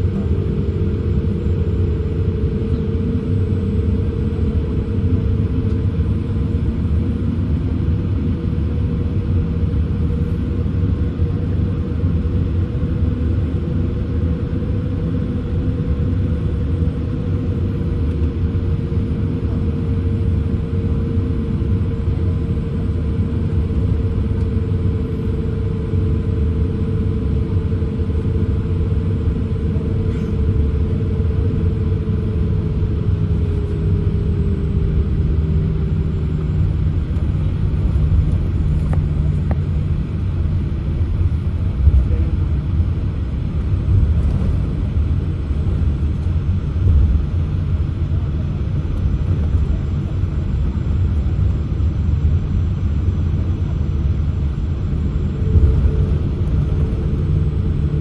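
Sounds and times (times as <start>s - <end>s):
low rumble inside aircraft cabin: 0.0s - 58.0s
mid-pitched hum: 0.0s - 58.0s.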